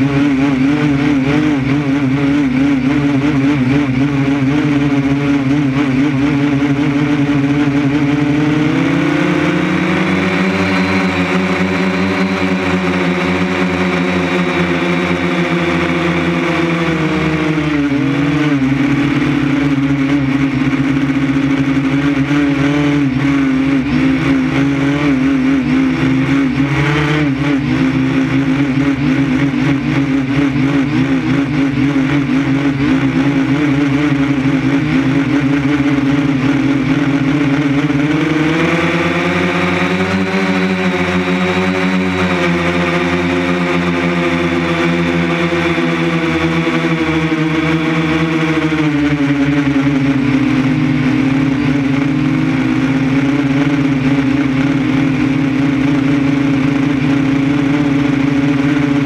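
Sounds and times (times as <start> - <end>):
drone propellers whining: 0.0 - 59.0.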